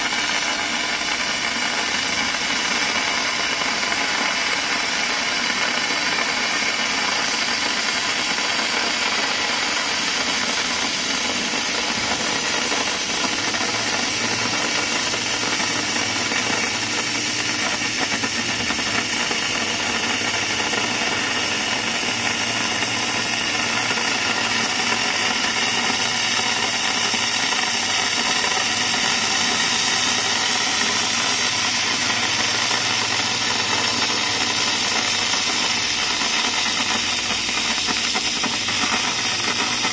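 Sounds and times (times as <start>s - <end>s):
laser cutter oxygen jet hissing: 0.0s - 39.9s.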